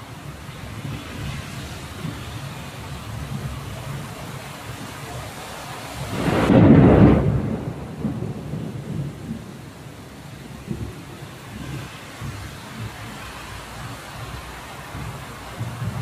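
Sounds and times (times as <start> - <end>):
steady rain: 0.0 - 16.0
thunder rumble: 0.0 - 16.0.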